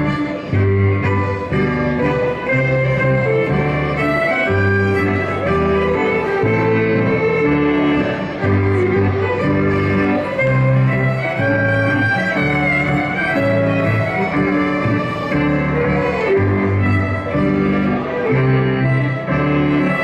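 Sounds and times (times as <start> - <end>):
fiddle-led dance band: 0.0 - 20.0.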